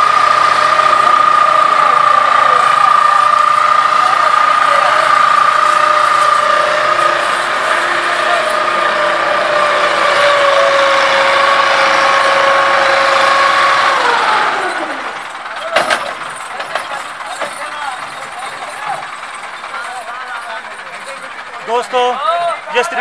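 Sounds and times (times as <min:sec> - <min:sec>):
tractor engine straining: 0:00.0 - 0:23.0.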